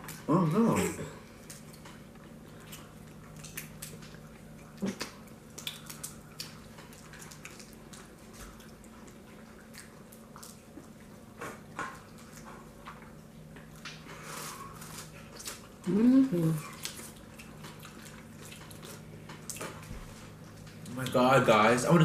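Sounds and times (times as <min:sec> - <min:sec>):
faint steady hum: 0:00.0 - 0:22.0
chewing: 0:01.2 - 0:21.2.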